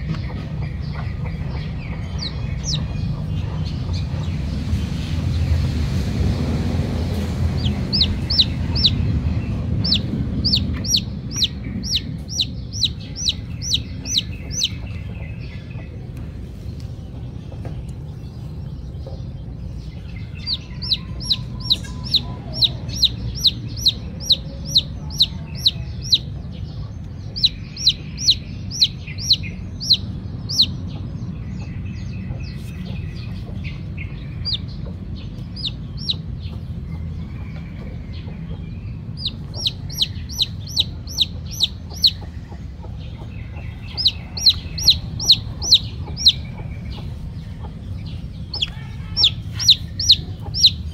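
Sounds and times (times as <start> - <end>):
chicks peeping: 0.0 - 50.9
low rumble: 0.0 - 50.9.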